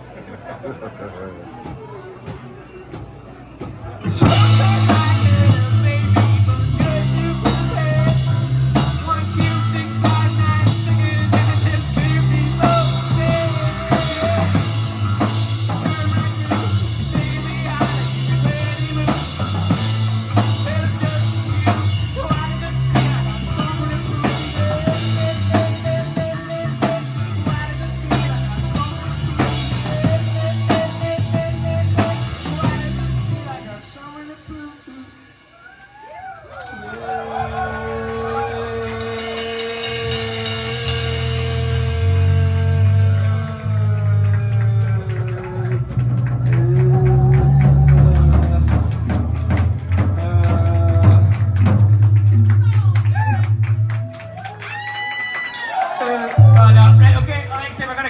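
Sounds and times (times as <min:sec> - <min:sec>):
live rock band playing: 0:01.6 - 0:35.5, 0:37.3 - 0:58.0
drum kit beat: 0:01.7 - 0:36.0, 0:37.0 - 0:58.0
held bass line: 0:04.0 - 0:33.9, 0:37.1 - 0:55.0, 0:56.4 - 0:58.0.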